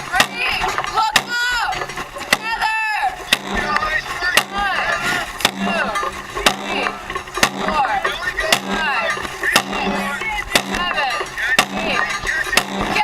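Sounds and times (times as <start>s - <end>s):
drum beating steadily: 0.0s - 13.0s
people shouting and cheering: 0.0s - 13.0s.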